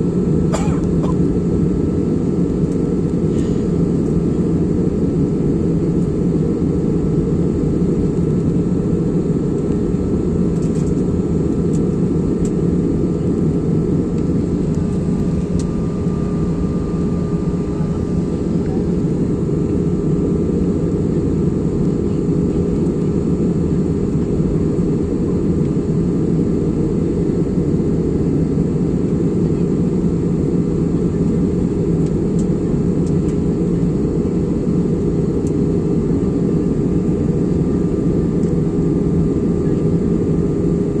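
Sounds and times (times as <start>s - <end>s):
jet airliner cabin rumble: 0.0s - 41.0s.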